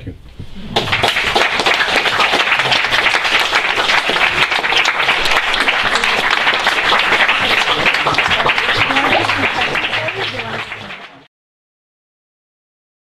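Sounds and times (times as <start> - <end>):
audience applauding: 0.6 - 11.3.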